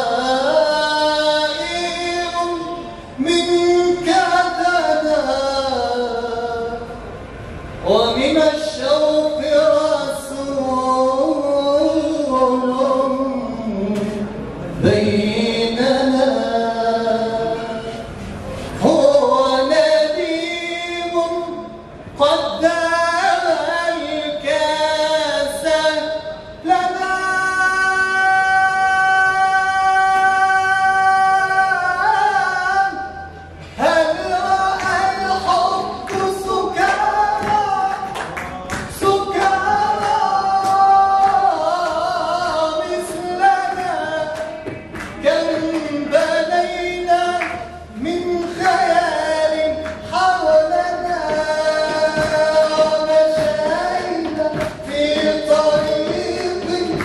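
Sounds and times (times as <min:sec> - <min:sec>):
man singing into a microphone: 0:00.0 - 0:07.1, 0:07.8 - 0:57.0.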